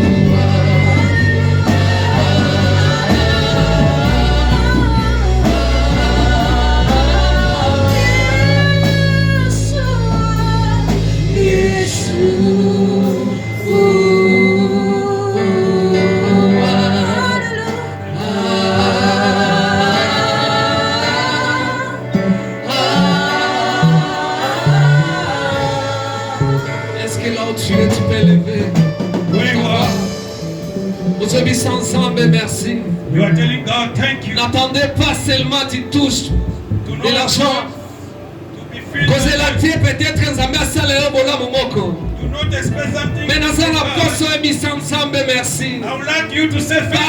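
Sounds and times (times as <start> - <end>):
amplified band with bass: 0.0 - 47.0
voices singing gospel: 0.0 - 47.0.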